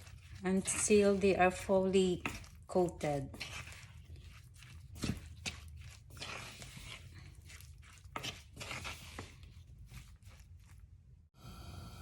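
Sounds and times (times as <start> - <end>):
chicken rustling and squishing in bowl: 0.0 - 11.3.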